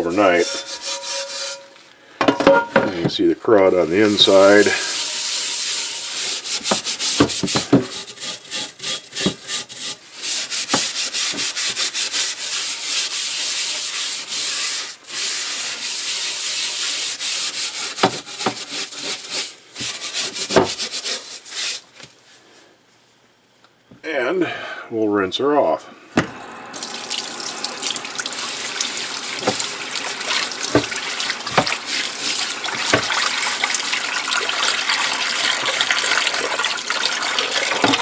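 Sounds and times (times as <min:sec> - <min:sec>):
scrubbing on a cast iron skillet: 0:00.0 - 0:01.8, 0:03.6 - 0:22.0, 0:26.8 - 0:38.0.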